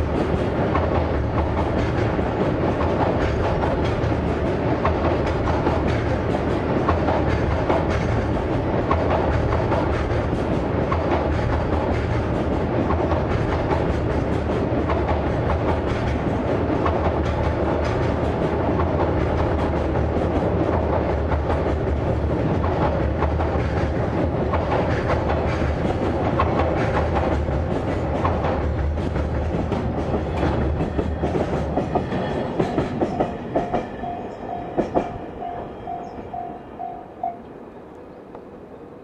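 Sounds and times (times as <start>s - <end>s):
train rumbling over bridge: 0.0s - 39.0s.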